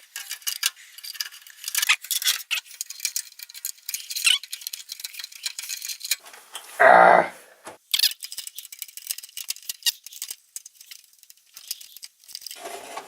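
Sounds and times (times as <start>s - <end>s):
motherboard clicks and scrapes: 0.0s - 6.7s, 7.8s - 13.0s.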